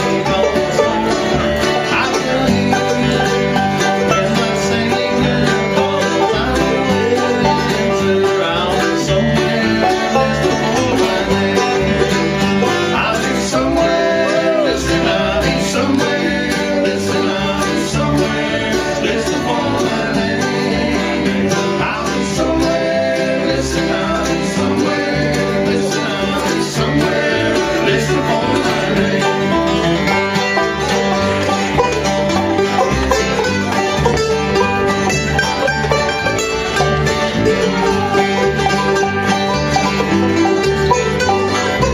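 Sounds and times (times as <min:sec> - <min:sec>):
acoustic guitar: 0:00.0 - 0:41.9
banjo: 0:00.0 - 0:41.9
bluegrass band playing: 0:00.0 - 0:41.9.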